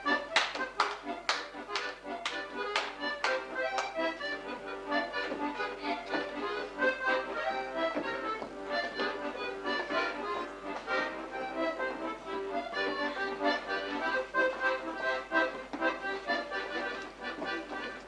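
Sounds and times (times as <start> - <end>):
accordion melody with chords: 0.0 - 18.0.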